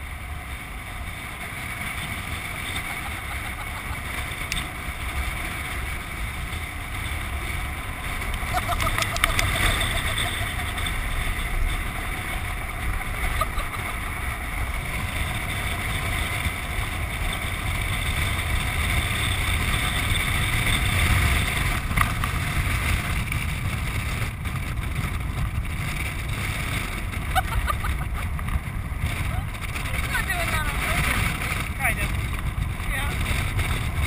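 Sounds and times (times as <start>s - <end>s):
wheels rumbling: 0.0s - 34.0s
wind on camera: 0.0s - 34.0s.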